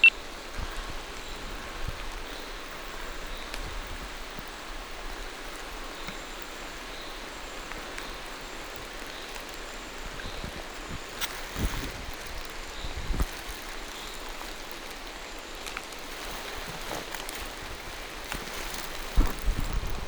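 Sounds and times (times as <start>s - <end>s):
rain falling through trees: 0.0s - 20.0s.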